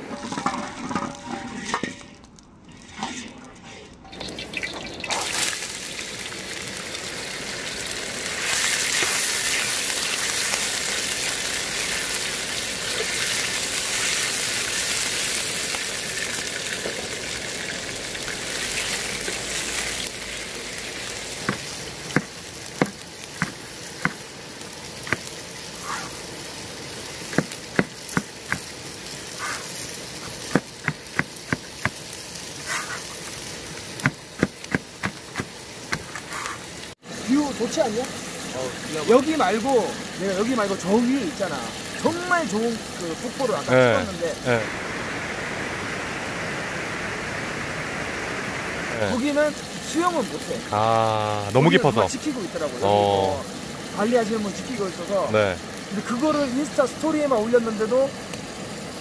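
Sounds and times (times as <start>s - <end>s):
meat sizzling in a wok: 4.2s - 59.0s.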